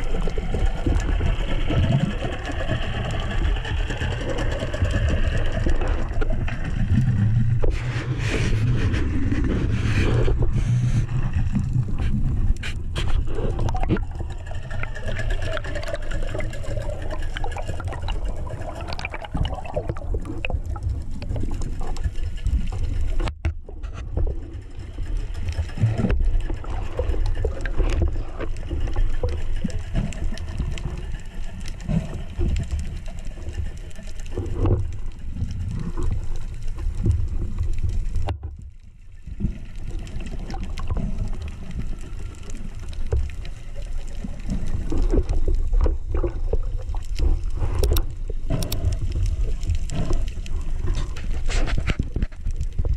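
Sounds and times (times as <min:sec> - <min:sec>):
underwater gurgles and bubbles: 0:00.0 - 0:52.9
underwater water rumble: 0:00.0 - 0:52.9.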